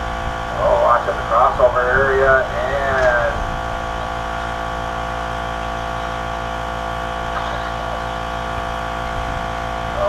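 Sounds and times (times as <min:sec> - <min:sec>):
electrical hum and buzz: 0:00.0 - 0:10.0.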